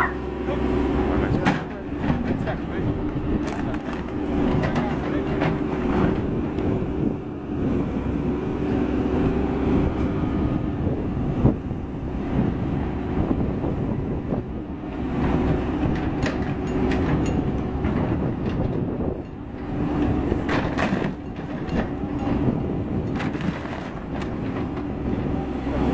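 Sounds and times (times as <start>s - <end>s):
diesel engine droning: 0.0s - 25.9s.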